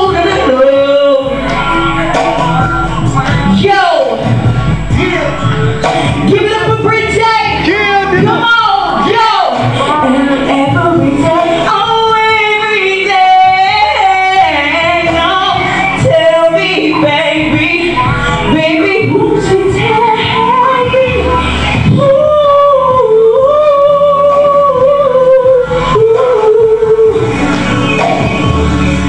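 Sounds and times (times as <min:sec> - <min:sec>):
woman singing into microphone: 0:00.0 - 0:29.0.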